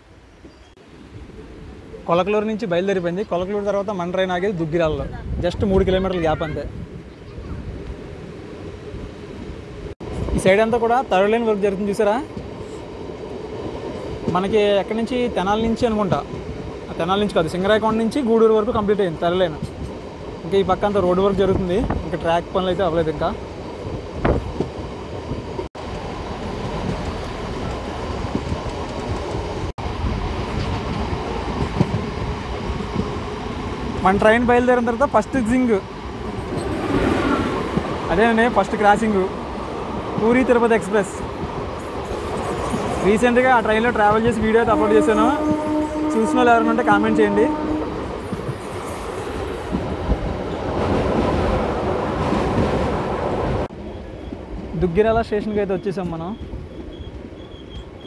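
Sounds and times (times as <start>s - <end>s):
train wheels rumbling on track: 0.4s - 58.0s.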